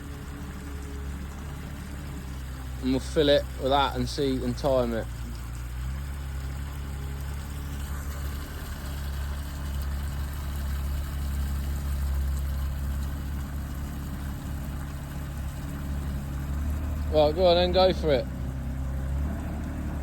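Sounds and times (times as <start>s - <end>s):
dumper engine idling: 0.0s - 20.0s.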